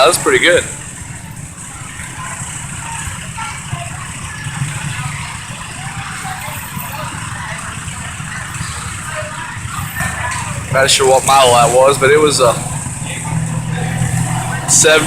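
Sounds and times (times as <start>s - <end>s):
faint background voices: 0.0s - 15.0s
garden tractor engine running: 0.0s - 15.0s.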